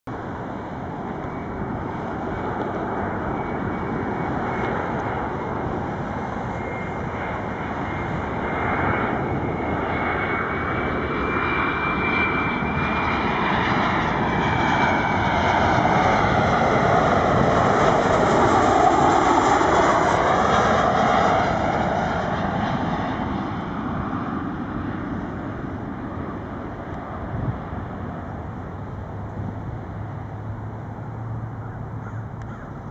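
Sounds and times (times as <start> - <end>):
jet airliner rumble and whine: 0.1 - 32.9.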